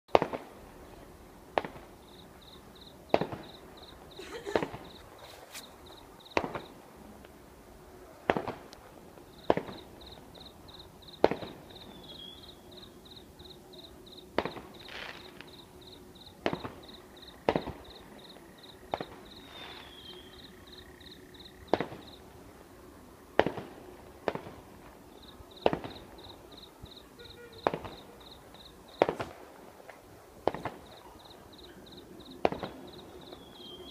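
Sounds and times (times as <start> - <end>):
fireworks bangs: 0.1 - 0.8, 1.5 - 6.9, 8.2 - 22.3, 23.3 - 33.9.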